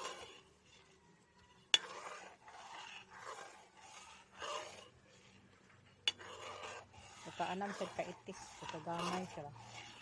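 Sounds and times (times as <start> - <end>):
metal ladle scraping a pan: 0.0 - 10.0.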